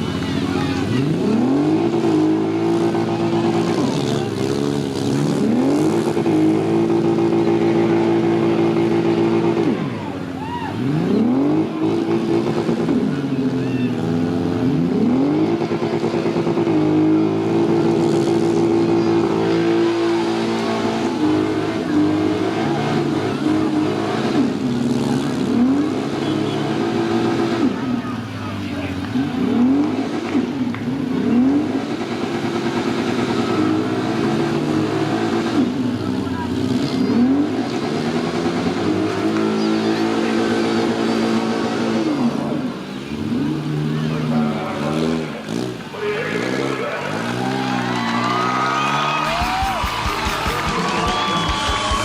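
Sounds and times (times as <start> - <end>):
car engines revving hard: 0.0 - 52.0.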